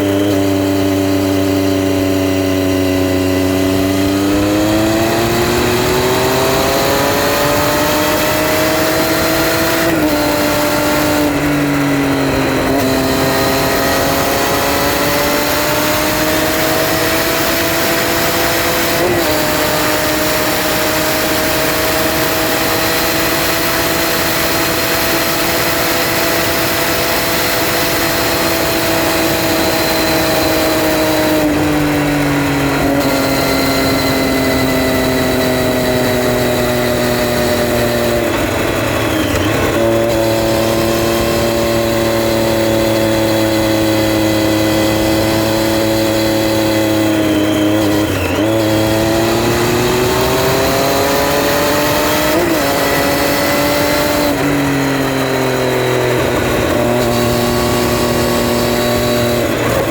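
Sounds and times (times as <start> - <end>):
motorcycle engine running: 0.0 - 59.9
rushing wind and road noise: 0.0 - 59.9.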